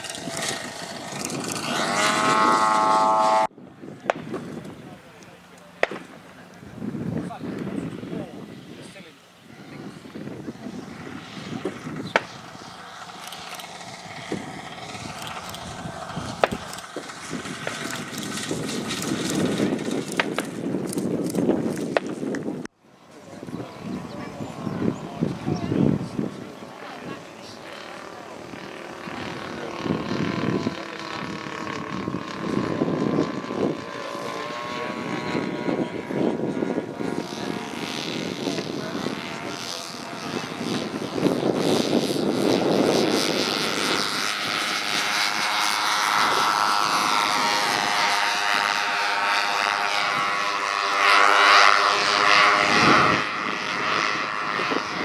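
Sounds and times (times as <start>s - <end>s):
model plane engine drone: 0.0s - 55.0s.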